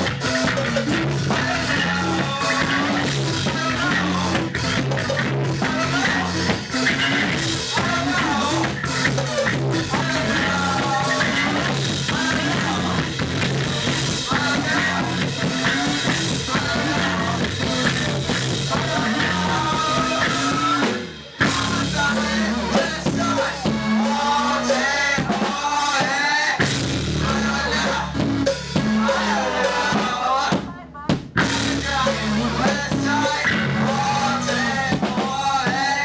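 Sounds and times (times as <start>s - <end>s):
live rock band playing: 0.0s - 36.0s
person singing: 0.0s - 36.0s.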